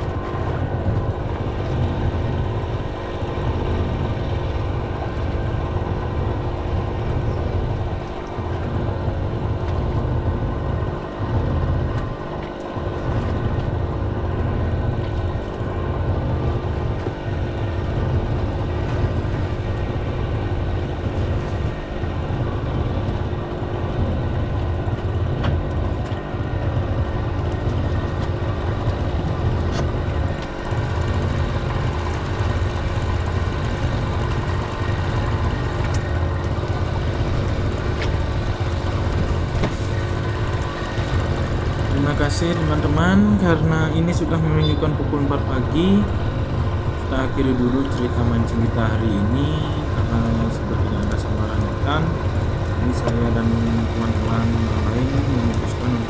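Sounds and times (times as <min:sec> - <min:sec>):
boat motor droning: 0:00.0 - 0:56.0.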